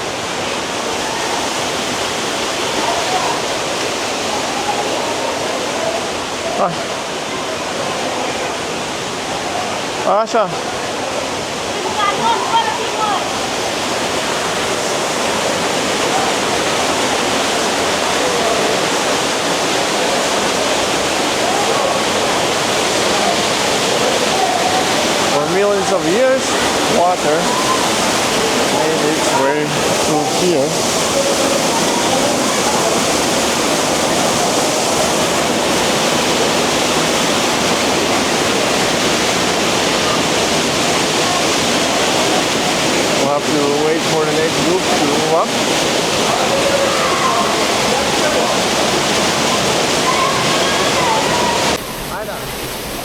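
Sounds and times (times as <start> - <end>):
waterfall rushing through gorge: 0.0 - 53.0.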